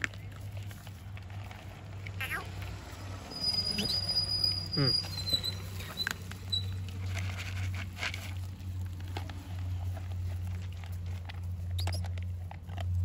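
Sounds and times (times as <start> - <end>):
paws shifting on dry leaves: 0.0 - 13.0
puppies eating from plastic bowls: 0.0 - 13.0.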